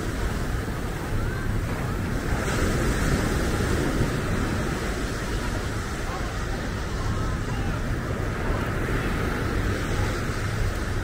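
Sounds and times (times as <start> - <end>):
ocean surf washing: 0.0 - 11.0
wind rumbling on microphone: 0.0 - 11.0.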